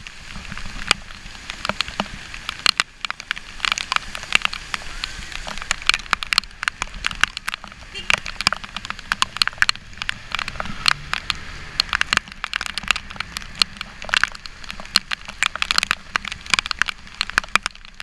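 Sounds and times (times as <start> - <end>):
motorcycle engine rumble: 0.0 - 15.4
raindrops tapping on camera housing: 0.0 - 18.0.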